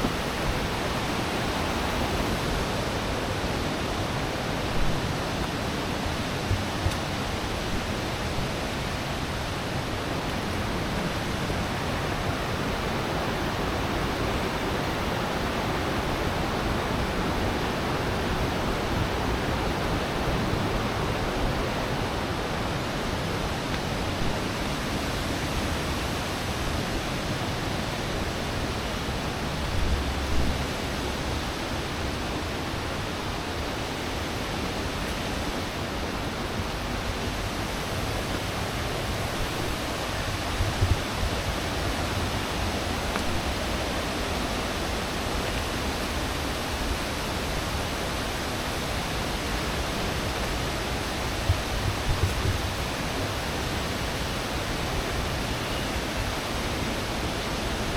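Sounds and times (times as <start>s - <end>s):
steady rushing noise: 0.0s - 57.9s.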